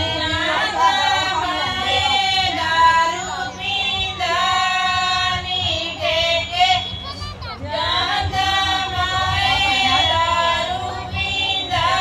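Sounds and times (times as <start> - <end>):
women singing folk song: 0.0 - 7.0, 7.6 - 12.0.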